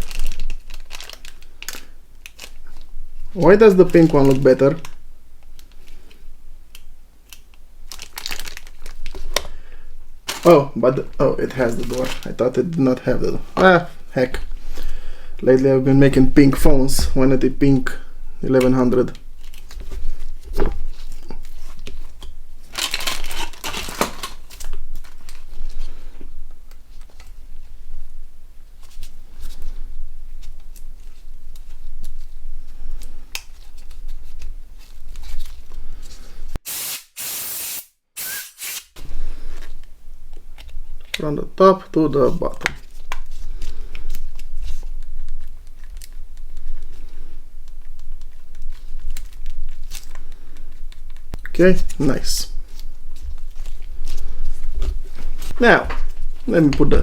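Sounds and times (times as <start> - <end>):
plastic crinkling and rustling: 0.0 - 9.6, 10.2 - 14.8, 18.6 - 36.6, 39.0 - 57.0.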